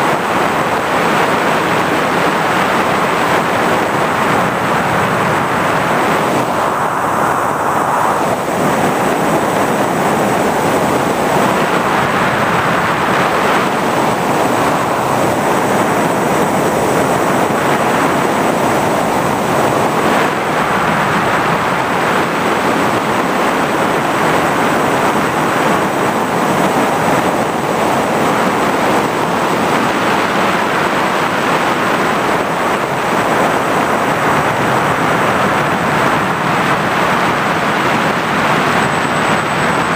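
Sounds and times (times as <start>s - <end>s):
aircraft motor and propeller rushing: 0.0s - 39.9s.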